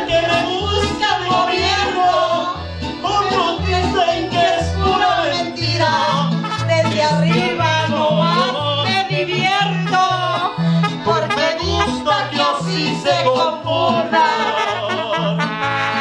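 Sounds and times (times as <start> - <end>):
accordion: 0.0 - 16.0
bass guitar oom-pah notes: 0.0 - 16.0
person singing: 0.0 - 16.0.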